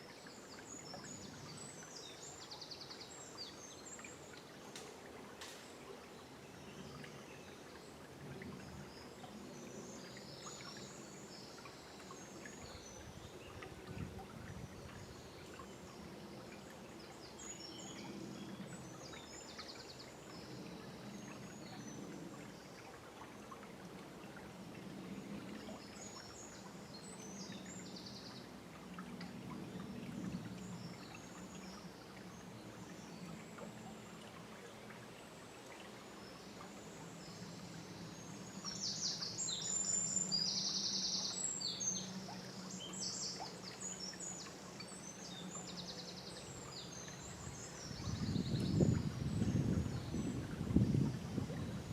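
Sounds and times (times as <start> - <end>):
river flowing gently: 0.0 - 51.9
songbirds chirping: 0.0 - 51.9.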